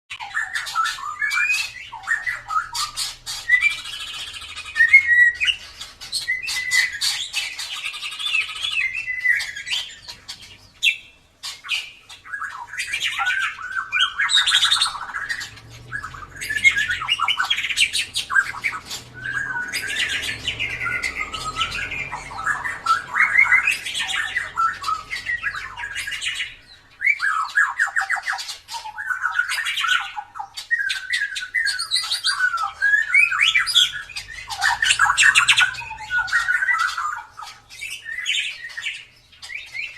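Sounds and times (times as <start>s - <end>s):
bird singing whistles and warbles: 0.1s - 39.9s.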